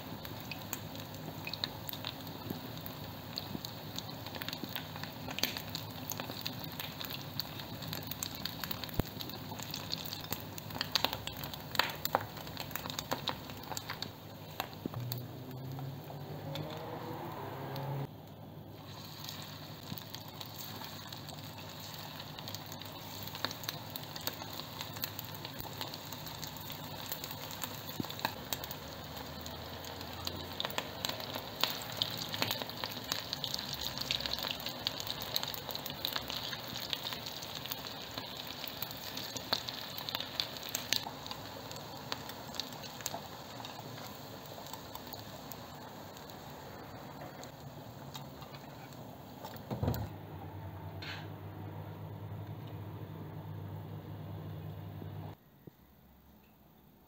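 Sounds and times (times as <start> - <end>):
patties sizzling in oil: 0.0 - 50.1.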